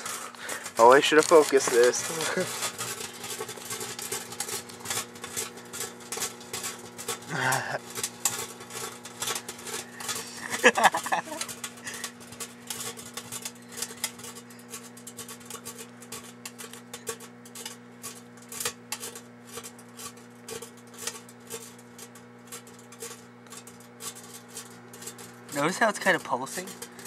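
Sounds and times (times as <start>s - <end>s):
electric arcing crackles and pops: 0.0s - 27.0s
microwave oven humming: 0.0s - 27.0s.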